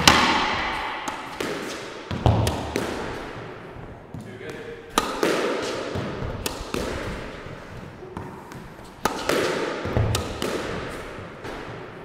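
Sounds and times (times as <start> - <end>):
ball hitting wall and floor: 0.0 - 12.0
squash racket striking ball: 0.0 - 12.0.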